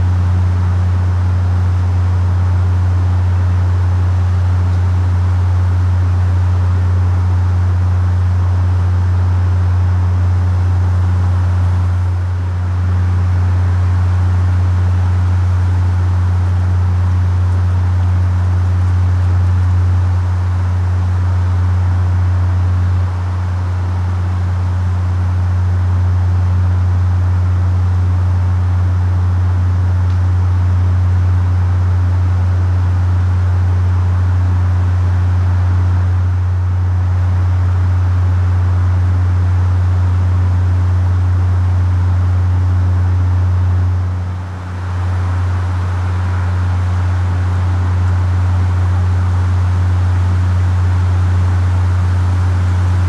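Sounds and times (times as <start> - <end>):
deep droning hum: 0.0 - 53.0.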